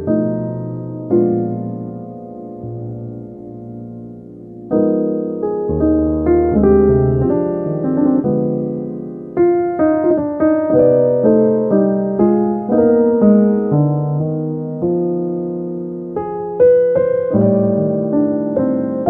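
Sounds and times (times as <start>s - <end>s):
piano notes and chords: 0.0s - 19.0s.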